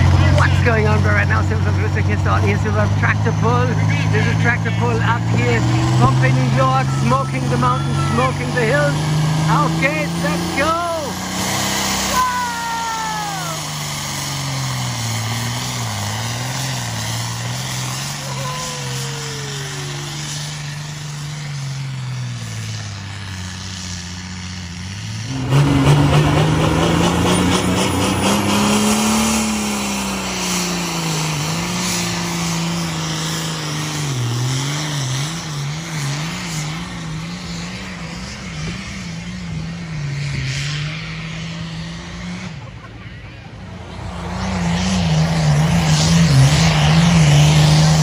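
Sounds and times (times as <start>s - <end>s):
diesel tractor engine at full throttle: 0.0s - 48.0s.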